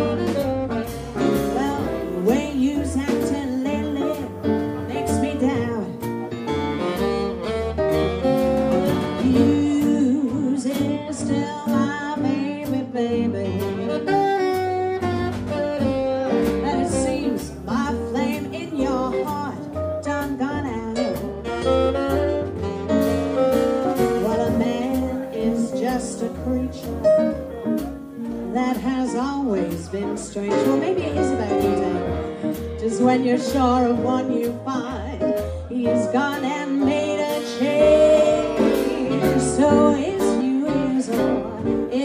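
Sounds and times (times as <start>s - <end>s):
saxophone lead: 0.0s - 29.7s, 30.4s - 42.0s
double bass: 0.0s - 42.0s
drums and cymbals: 0.0s - 42.0s
piano: 0.0s - 42.0s.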